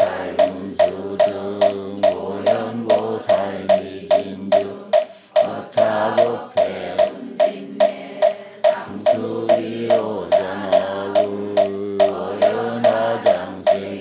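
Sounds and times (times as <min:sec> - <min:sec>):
wooden fish strikes: 0:00.0 - 0:13.8
congregation chanting: 0:00.0 - 0:14.0.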